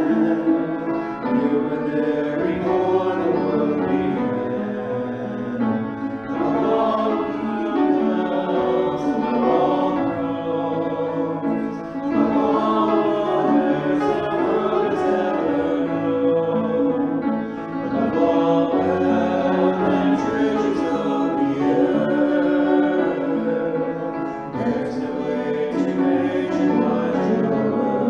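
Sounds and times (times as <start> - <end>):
grand piano: 0.0 - 28.0
people singing worship song: 0.0 - 28.0.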